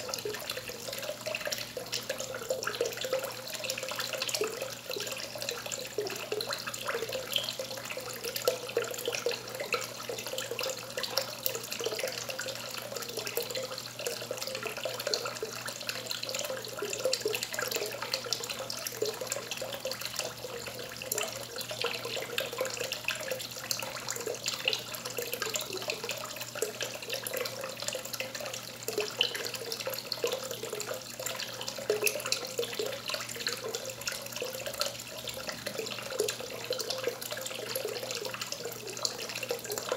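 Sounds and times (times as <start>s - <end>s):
water trickling from pipe: 0.0s - 39.9s.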